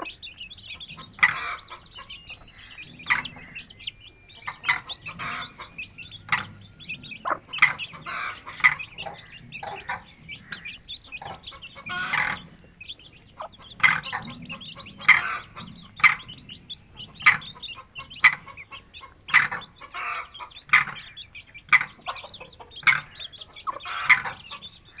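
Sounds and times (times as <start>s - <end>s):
chicks peeping: 0.0s - 25.0s
hen clucking: 0.0s - 25.0s.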